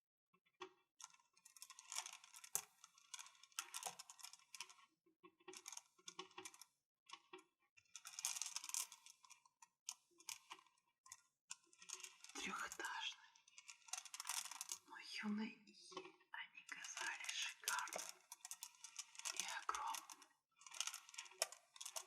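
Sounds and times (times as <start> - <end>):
crystals clicking and rattling: 1.0 - 4.9, 5.5 - 15.0, 15.9 - 22.0.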